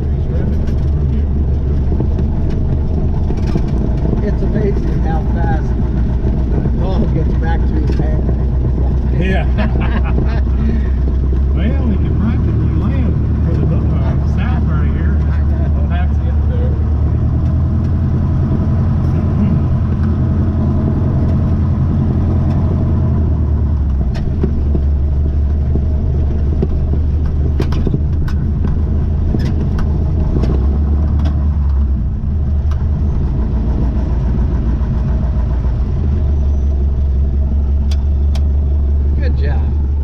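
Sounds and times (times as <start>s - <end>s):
vehicle engine droning: 0.0s - 40.0s.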